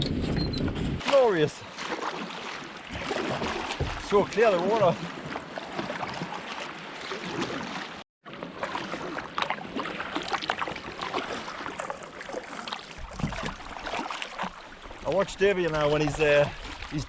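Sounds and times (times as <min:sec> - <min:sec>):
water splashing around kayak: 0:00.8 - 0:17.0.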